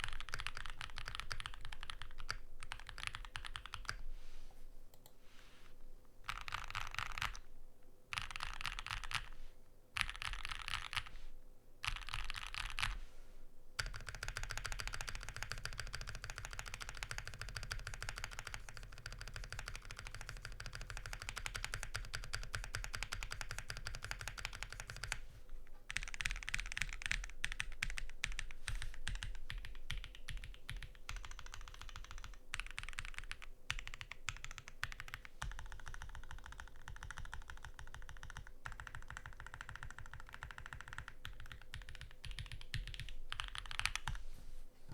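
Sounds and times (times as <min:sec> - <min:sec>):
mechanical keyboard typing: 0:00.0 - 0:04.0, 0:06.3 - 0:07.4, 0:08.1 - 0:09.3, 0:10.0 - 0:11.1, 0:11.8 - 0:13.0, 0:13.8 - 0:25.2, 0:25.9 - 0:44.2.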